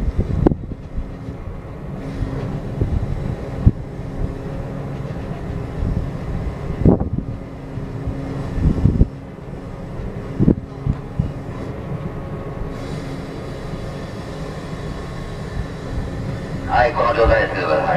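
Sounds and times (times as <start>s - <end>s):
ship engine humming: 0.0s - 17.9s.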